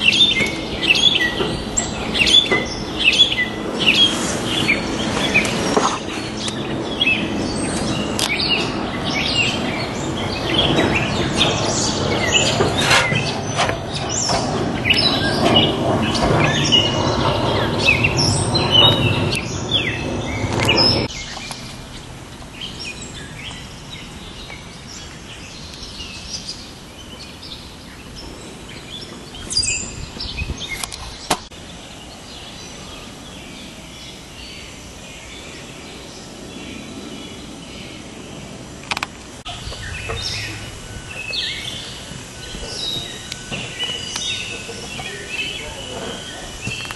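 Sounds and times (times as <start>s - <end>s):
small birds chirping: 0.0s - 46.9s
steady outdoor rushing noise: 0.0s - 46.9s.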